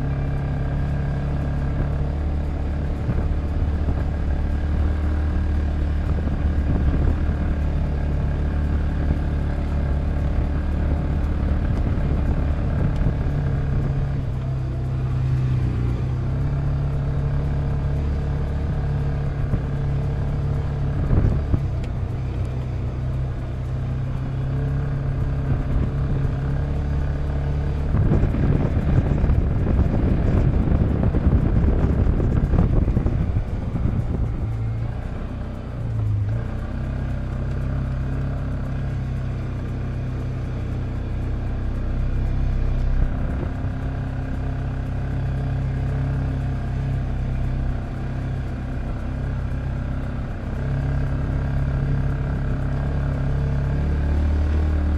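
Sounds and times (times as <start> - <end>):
single-cylinder engine running: 0.0 - 54.9.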